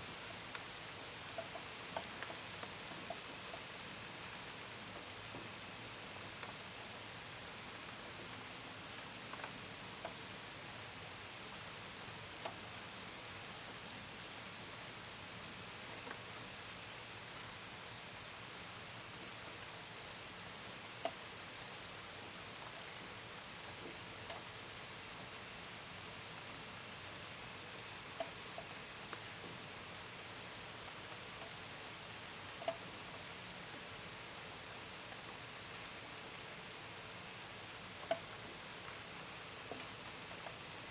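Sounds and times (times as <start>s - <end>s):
gentle rain: 0.0s - 40.9s.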